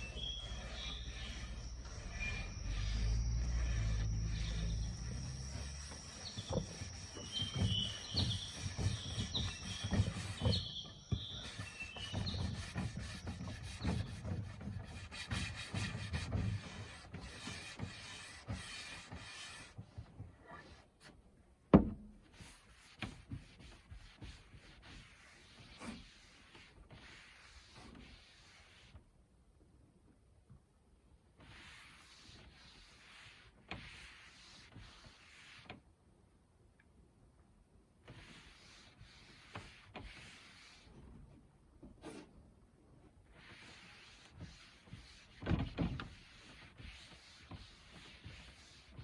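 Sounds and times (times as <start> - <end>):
rubbing strokes on a surface: 0.0 - 21.2, 22.2 - 29.0, 31.4 - 35.8, 38.0 - 41.2, 42.0 - 42.4, 43.2 - 49.0.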